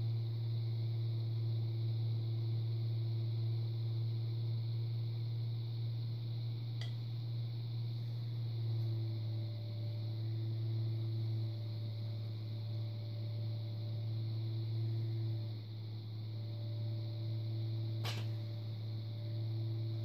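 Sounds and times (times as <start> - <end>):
potter's wheel motor humming: 0.7 - 20.0.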